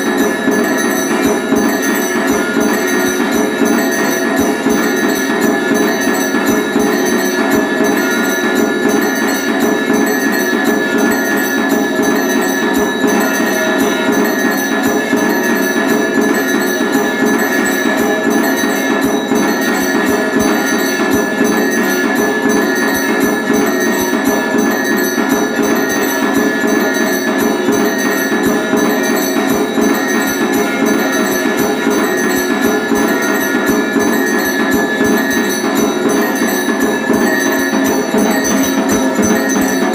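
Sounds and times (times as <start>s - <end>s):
bell ringing steadily: 0.0s - 39.9s
drum beaten rapidly: 0.0s - 39.9s.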